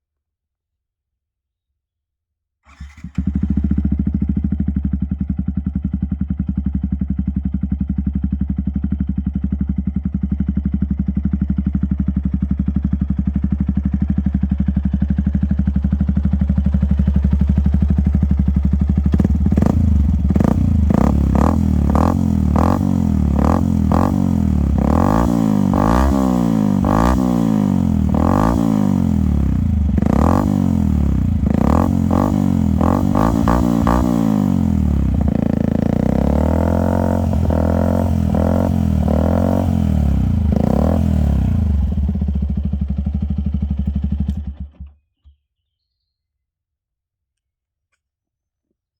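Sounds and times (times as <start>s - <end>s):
motorcycle engine idling and revving: 2.7s - 45.4s.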